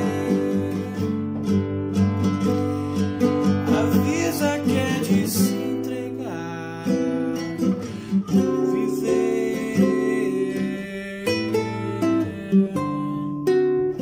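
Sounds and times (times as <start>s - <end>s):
classical guitar fingerpicked: 0.0s - 14.0s.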